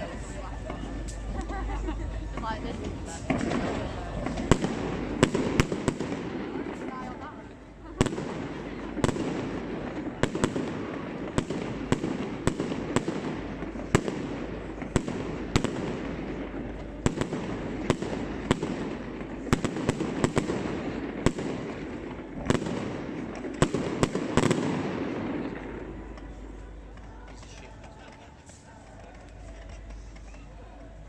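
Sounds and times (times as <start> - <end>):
fireworks bangs: 0.0 - 28.6
fireworks crackling: 0.0 - 31.0.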